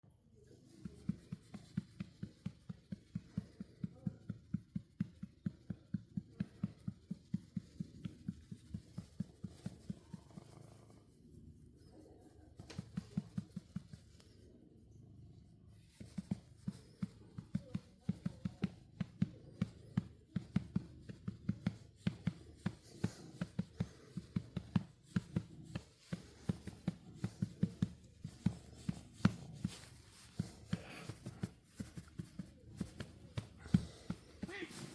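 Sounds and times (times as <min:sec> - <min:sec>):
hand patting cat: 0:00.7 - 0:10.9, 0:12.5 - 0:14.4, 0:15.4 - 0:34.9.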